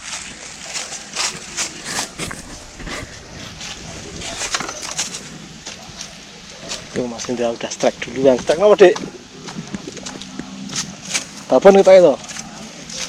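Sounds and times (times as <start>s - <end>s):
footsteps on stones: 0.0s - 13.0s
steady rushing noise: 0.0s - 13.0s.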